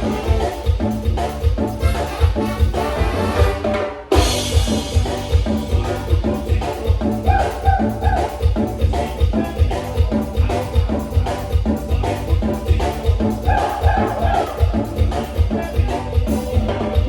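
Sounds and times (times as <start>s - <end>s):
drum kit beat: 0.0s - 17.0s
heavy bass line: 0.0s - 17.0s.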